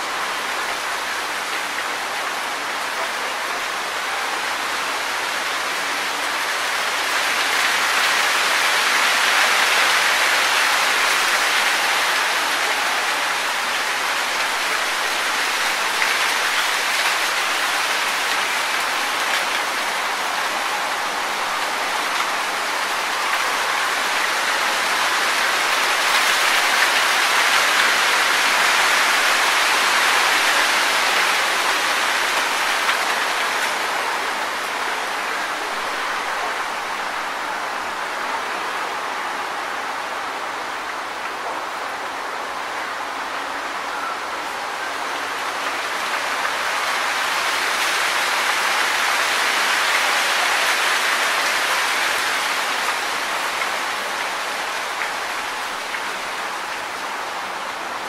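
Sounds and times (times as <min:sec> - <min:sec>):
wind rustling tree leaves: 0:00.0 - 0:58.0.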